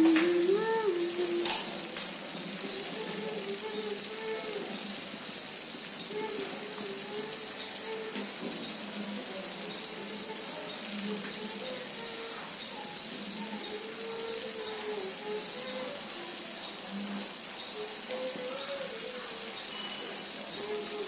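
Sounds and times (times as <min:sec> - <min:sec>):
faint voices: 0:00.0 - 0:21.0
food sizzling in a frying pan: 0:00.0 - 0:21.0.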